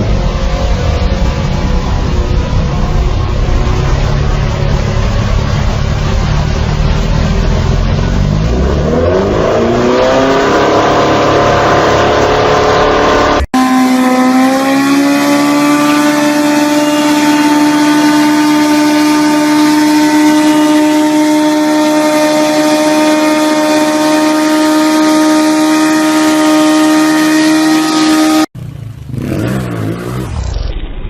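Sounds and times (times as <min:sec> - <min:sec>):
engine held at high revs: 0:00.0 - 0:30.6
motorcycle engine revving: 0:00.0 - 0:31.0.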